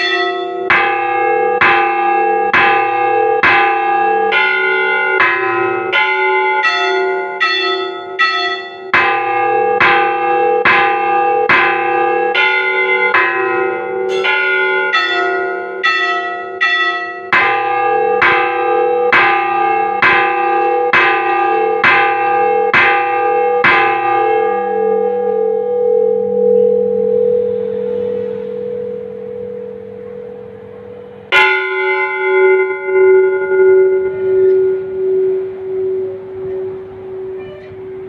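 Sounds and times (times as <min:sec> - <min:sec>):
church bells pealing: 0:00.0 - 0:38.0.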